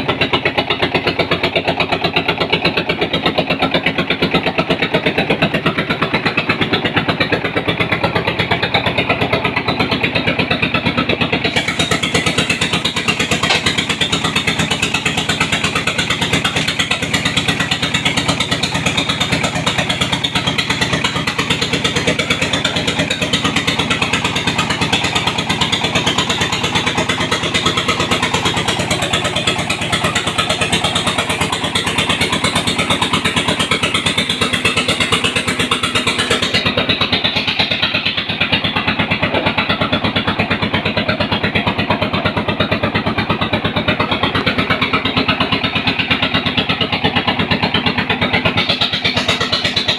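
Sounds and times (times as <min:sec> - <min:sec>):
press machine engine pulsing: 0:00.0 - 0:49.9.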